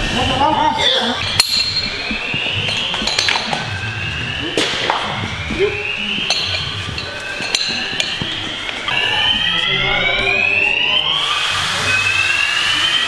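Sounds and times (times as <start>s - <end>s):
evacuation alarm whooping: 1.2s - 13.0s.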